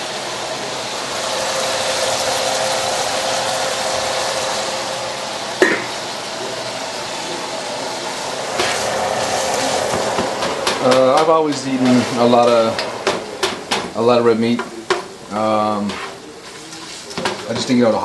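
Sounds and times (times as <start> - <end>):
rushing kitchen noise: 0.0 - 18.0.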